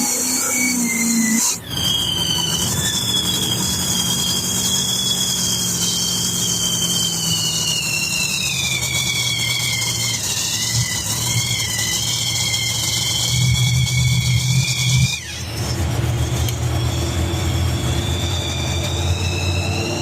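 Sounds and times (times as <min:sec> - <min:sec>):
high whine falling in pitch: 0:00.0 - 0:20.0
monster truck engine running: 0:00.0 - 0:20.0.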